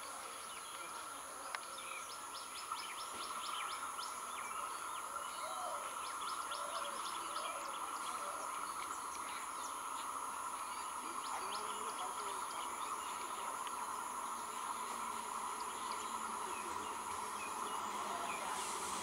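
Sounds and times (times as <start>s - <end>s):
small birds chirping: 0.0s - 19.0s
steady hiss: 0.0s - 19.0s.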